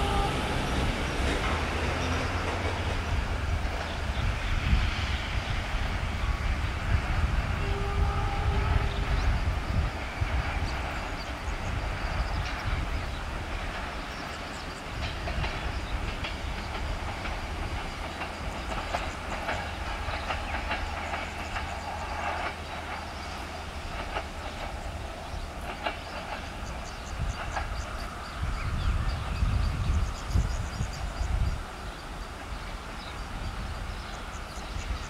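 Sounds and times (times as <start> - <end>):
train low rumble: 0.0 - 35.0
train wheels clicking on rail joints: 0.0 - 35.0.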